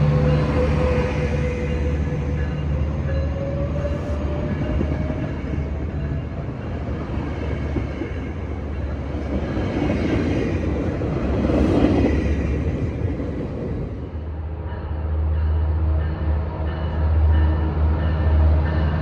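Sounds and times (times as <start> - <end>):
locomotive engine drone: 0.0 - 19.0
wheels rumbling on rails: 0.0 - 19.0.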